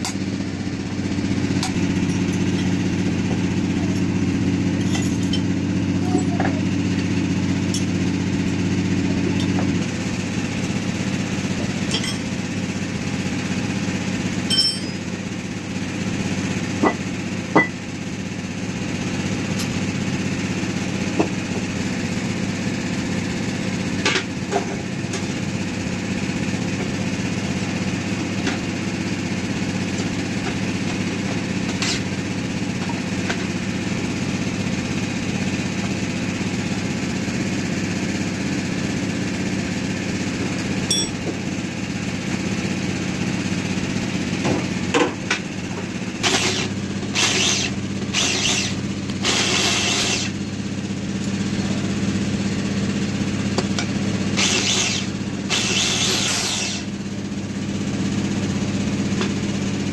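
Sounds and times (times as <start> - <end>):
workshop machinery humming: 0.0 - 59.9.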